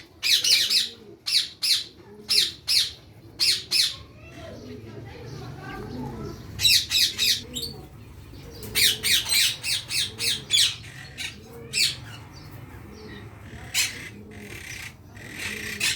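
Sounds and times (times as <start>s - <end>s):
parakeet chicks squawking: 0.0s - 15.9s.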